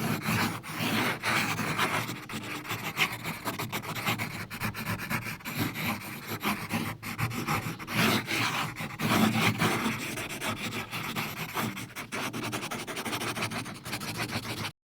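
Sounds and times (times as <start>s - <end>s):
pencil scratching on paper: 0.0s - 14.8s.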